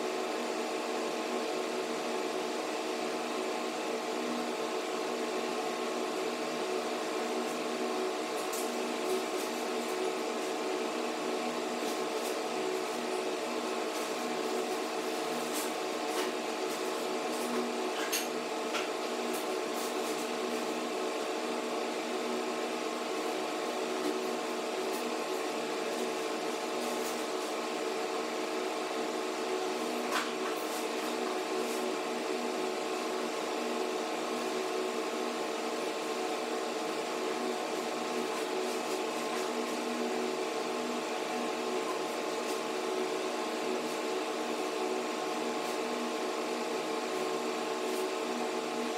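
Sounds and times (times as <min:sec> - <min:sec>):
steady machine hum: 0:00.0 - 0:48.9.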